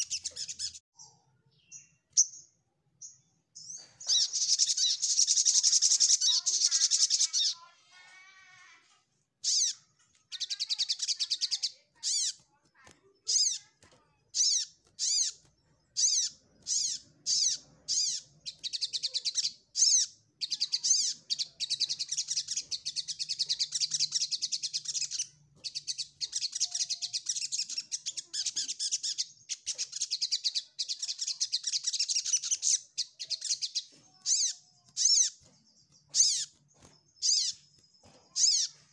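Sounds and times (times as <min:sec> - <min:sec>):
bird high-pitched chattering trills: 0:00.0 - 0:08.8, 0:09.4 - 0:38.9.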